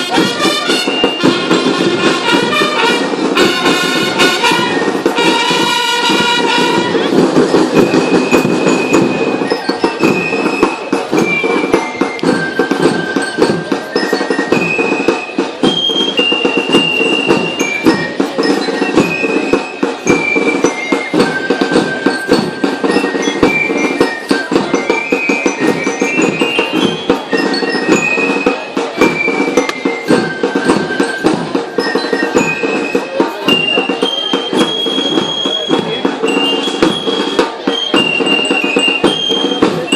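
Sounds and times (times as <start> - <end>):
bell melody: 0.0 - 39.9
continuous drumming: 0.0 - 39.9.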